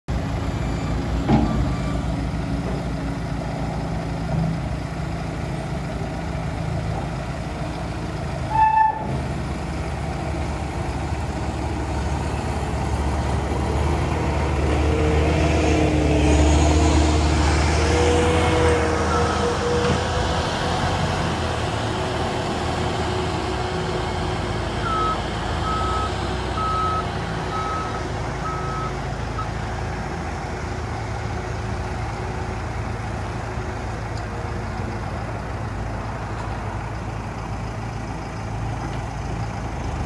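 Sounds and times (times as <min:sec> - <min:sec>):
diesel engine running: 0:00.1 - 0:40.0.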